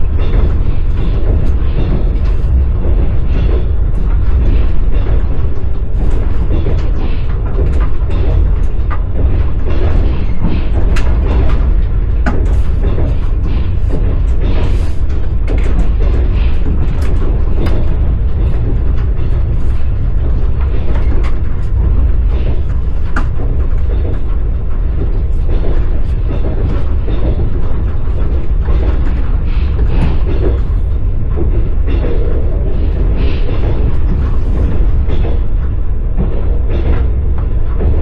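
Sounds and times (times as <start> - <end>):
train rumble inside carriage: 0.0 - 38.0
wheels clattering on rails: 0.0 - 38.0.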